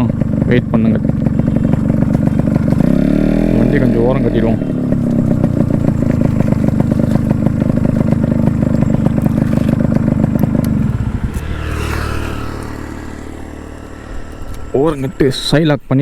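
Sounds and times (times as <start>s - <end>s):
motorcycle engine pulsing: 0.0s - 16.0s.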